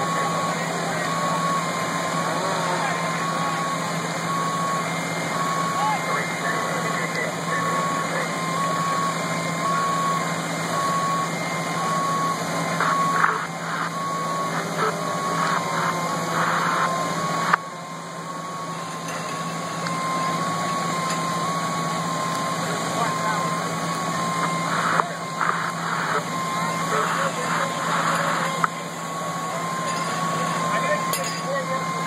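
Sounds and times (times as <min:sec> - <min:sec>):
electronic back-up beeping: 0:00.0 - 0:32.0
fire engine running: 0:00.0 - 0:32.0.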